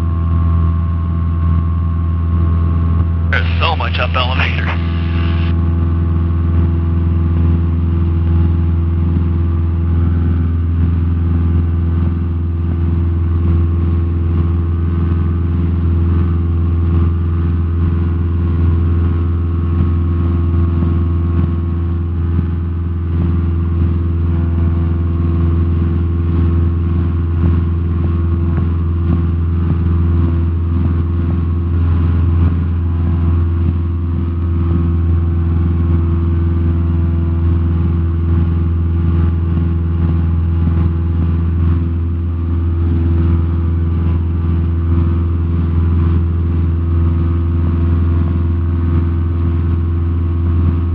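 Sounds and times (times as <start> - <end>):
light aircraft engine droning: 0.0 - 50.9.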